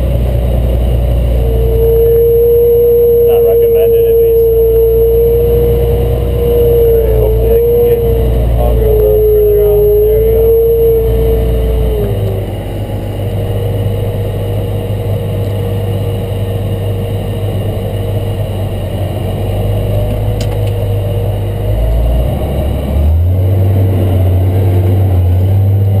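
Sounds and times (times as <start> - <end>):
high whine: 0.0 - 26.0
tractor engine running: 0.0 - 26.0.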